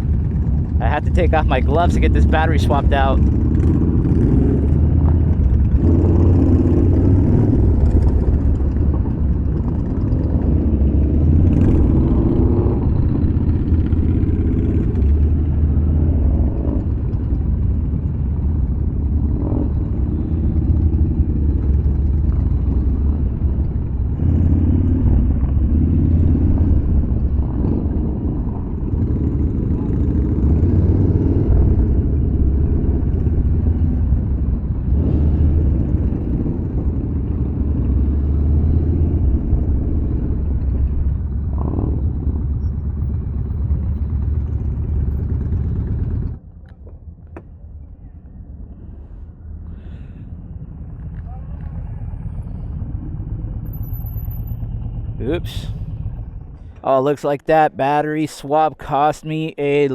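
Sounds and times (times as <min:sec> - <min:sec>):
motorcycle engine rumble: 0:00.0 - 0:57.6.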